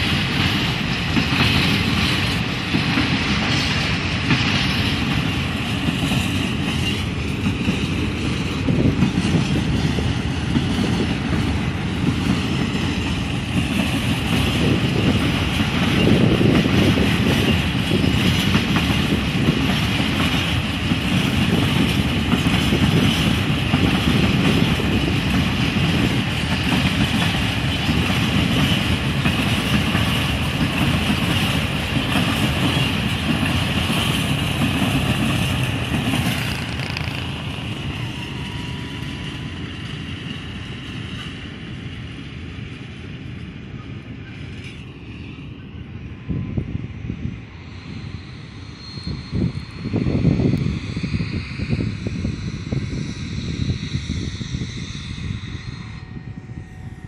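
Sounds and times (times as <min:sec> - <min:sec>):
freight train wheels rumbling: 0:00.0 - 0:57.0
high hiss of train: 0:00.0 - 0:57.0.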